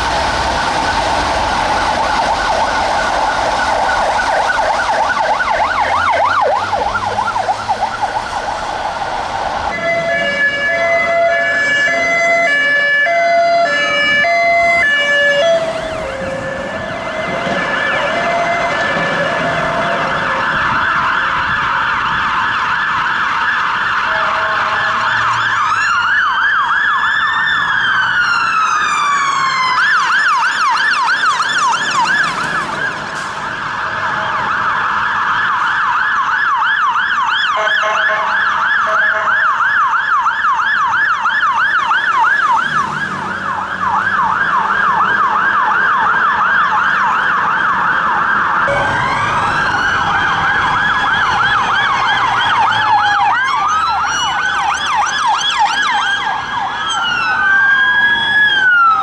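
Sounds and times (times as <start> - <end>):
fire engine sirens yelping: 0.0 - 59.0
siren slow wail: 0.0 - 59.0.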